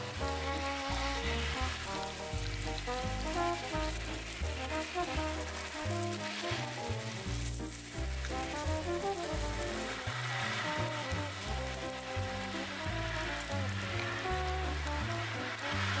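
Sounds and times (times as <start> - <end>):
background music: 0.0 - 16.0
meat sizzling in a frying pan: 0.0 - 16.0.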